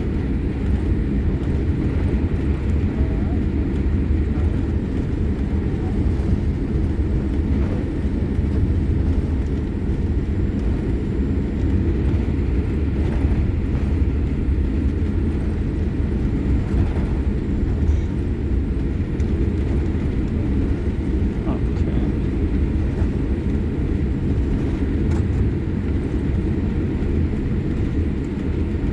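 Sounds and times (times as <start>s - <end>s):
aircraft cabin rumble while taxiing: 0.0s - 28.9s.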